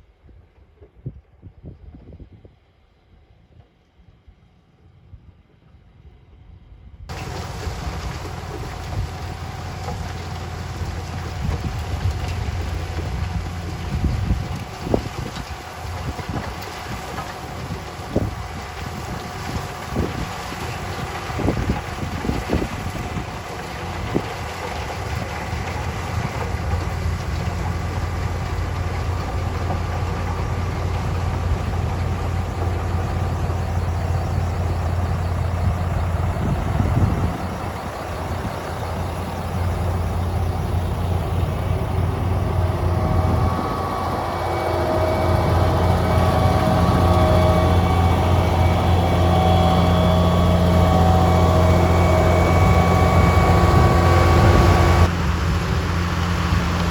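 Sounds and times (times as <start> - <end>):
heavy diesel engine running: 7.1 - 56.9
higher engine tone: 7.1 - 56.9.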